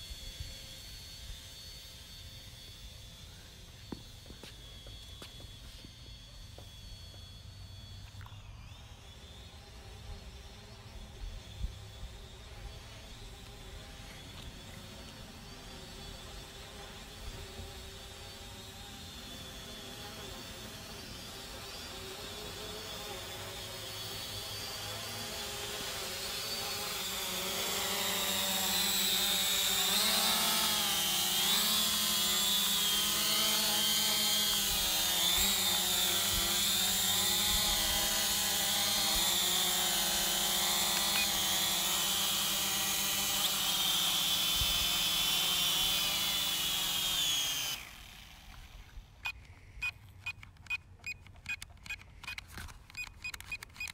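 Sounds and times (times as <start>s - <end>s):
drone motors whining: 0.0s - 53.9s.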